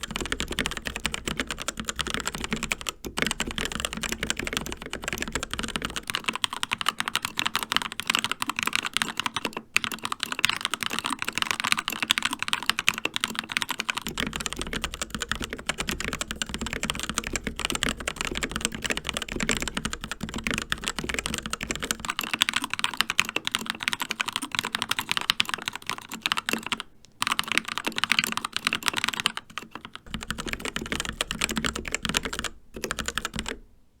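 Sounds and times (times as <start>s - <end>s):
fast typing on mechanical keyboard: 0.0s - 33.6s.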